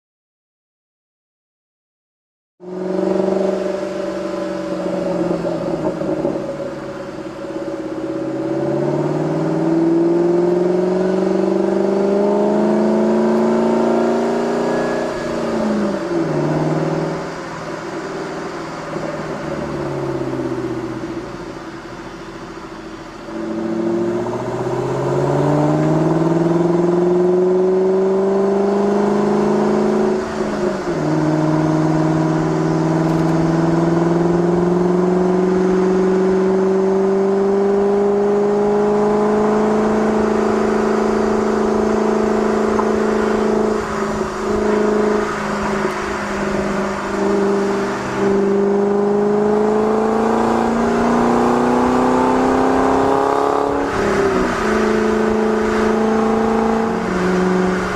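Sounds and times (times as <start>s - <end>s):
car engine accelerating hard: 2.6s - 57.9s.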